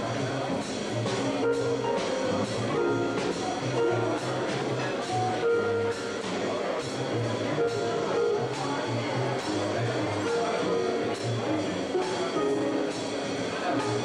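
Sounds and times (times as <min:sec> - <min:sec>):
drum and cymbal hits: 0:00.0 - 0:14.0
live band playing: 0:00.0 - 0:14.0
plucked double bass: 0:00.0 - 0:14.0.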